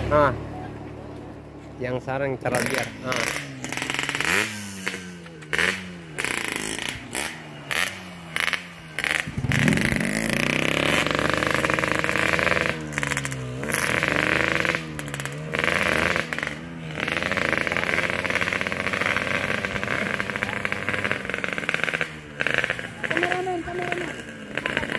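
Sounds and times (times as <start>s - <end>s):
motorcycle engine revving and accelerating: 2.4s - 24.9s.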